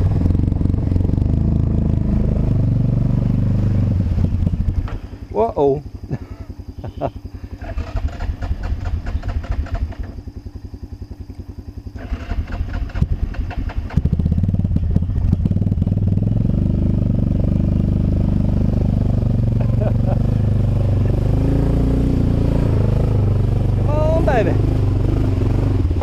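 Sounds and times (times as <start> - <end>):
atv engine chugging and revving: 0.0 - 26.0.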